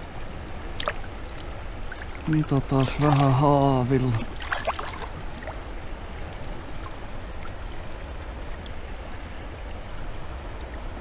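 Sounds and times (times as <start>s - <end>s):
water splashes: 0.2s - 9.4s.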